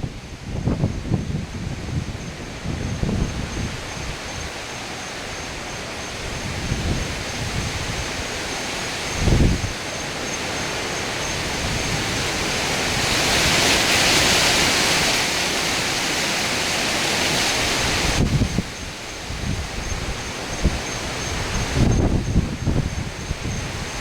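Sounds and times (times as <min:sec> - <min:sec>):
hurricane wind and heavy rain: 0:00.0 - 0:24.0
wind rumble on microphone: 0:00.0 - 0:24.0.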